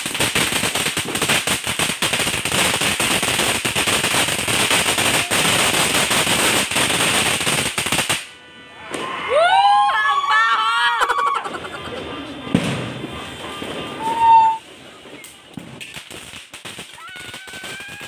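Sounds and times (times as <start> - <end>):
fireworks crackling pops: 0.0 - 9.1, 12.5 - 18.0.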